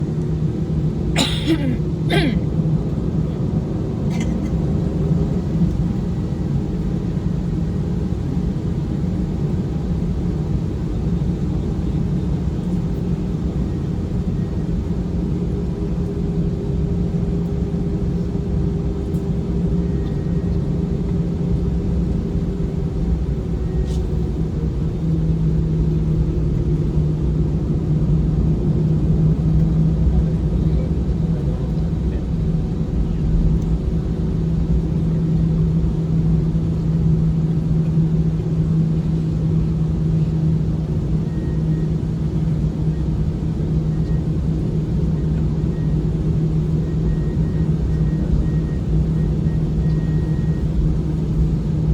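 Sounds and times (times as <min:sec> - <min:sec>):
airliner cabin rumble and hum: 0:00.0 - 0:51.9.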